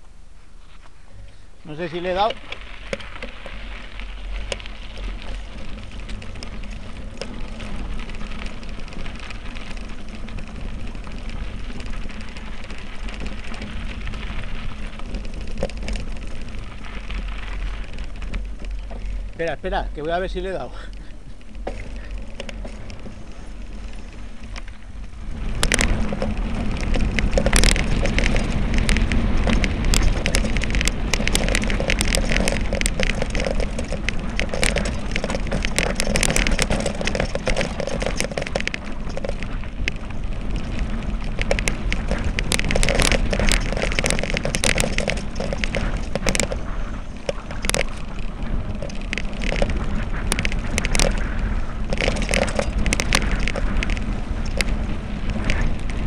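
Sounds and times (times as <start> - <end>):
bike rattles over bumps: 0.0 - 56.0
bike tyre and wind rush: 0.0 - 56.0.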